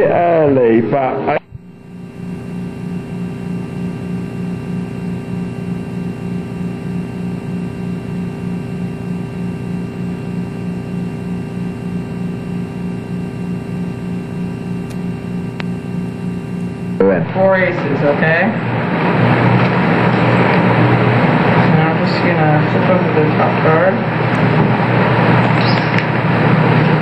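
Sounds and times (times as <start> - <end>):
pulsing machine hum: 0.0 - 27.0.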